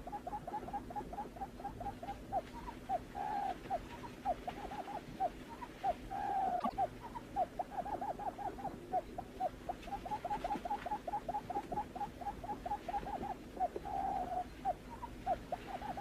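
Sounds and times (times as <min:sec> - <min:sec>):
bird low hooting call: 0:00.0 - 0:16.0.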